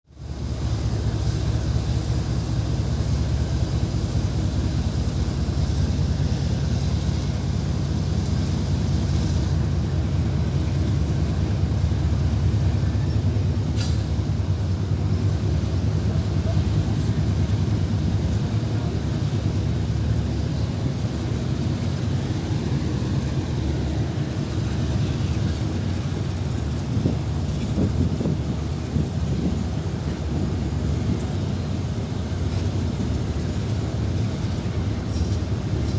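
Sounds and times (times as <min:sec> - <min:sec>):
train rumbling on track: 0:00.0 - 0:35.9.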